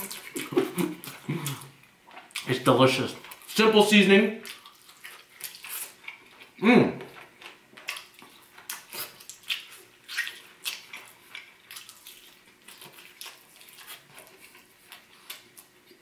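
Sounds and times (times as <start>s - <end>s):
wet chewing and lip smacking: 0.0s - 3.7s, 4.4s - 16.0s.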